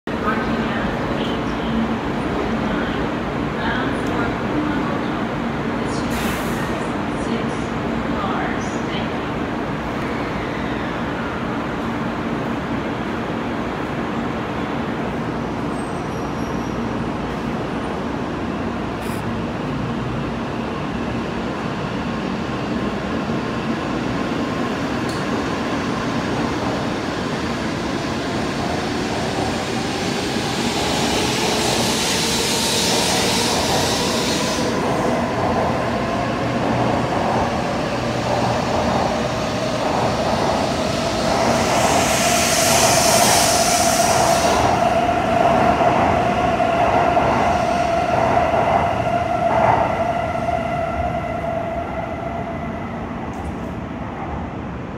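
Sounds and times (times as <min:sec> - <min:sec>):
train rolling rumble: 0:00.1 - 0:54.9.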